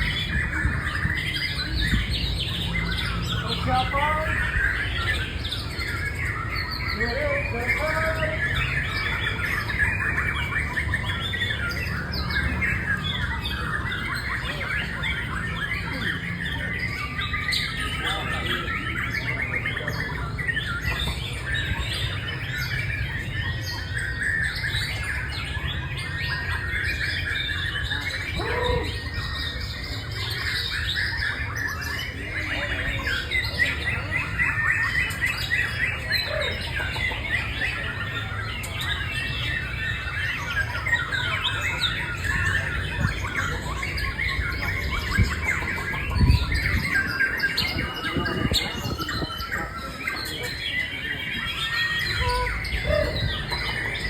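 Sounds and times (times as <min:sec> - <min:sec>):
bird singing chirps and whistles: 0:00.0 - 0:54.0.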